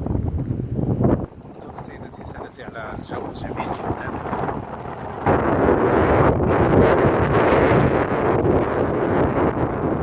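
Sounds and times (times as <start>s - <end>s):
wind blowing across microphone: 0.0s - 10.0s.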